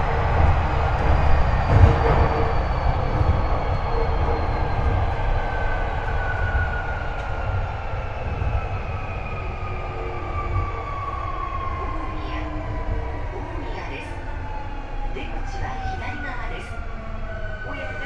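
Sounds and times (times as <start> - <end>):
electric train motor whine: 0.0 - 18.0
wheels rumbling on rail: 0.0 - 18.0.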